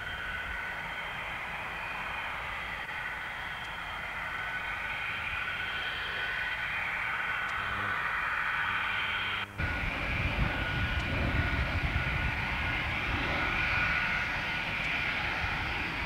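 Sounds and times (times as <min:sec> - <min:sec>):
jet engines whining and rumbling: 0:00.0 - 0:16.0.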